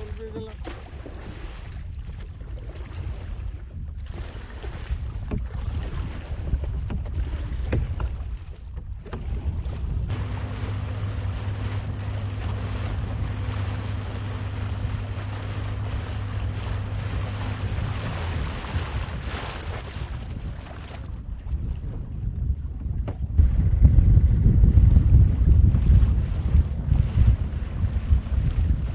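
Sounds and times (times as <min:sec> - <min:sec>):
outboard motor humming: 0:00.0 - 0:28.9
water splashing along hull: 0:00.0 - 0:28.9
wind buffeting microphone: 0:00.0 - 0:28.9.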